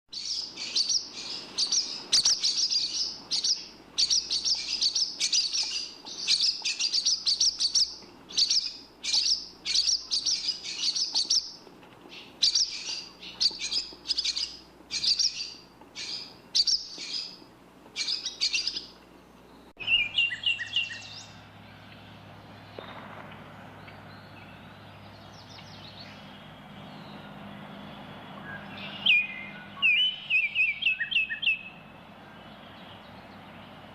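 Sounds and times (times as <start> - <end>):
low steady hum: 0.1 - 33.9
songbird chirping: 0.1 - 33.9.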